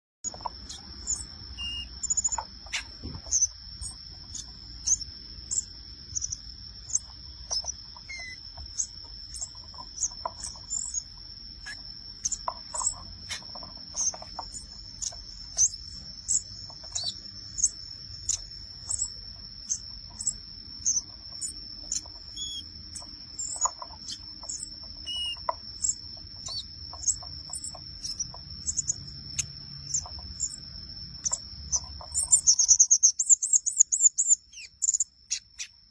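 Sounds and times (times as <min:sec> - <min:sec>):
high-pitched insect trill: 0:00.2 - 0:35.9
small bird chirping: 0:00.2 - 0:35.9.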